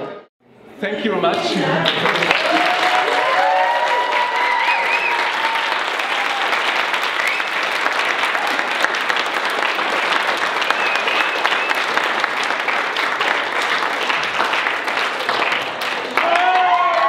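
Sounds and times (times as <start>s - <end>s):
crowd applauding: 1.8s - 17.0s.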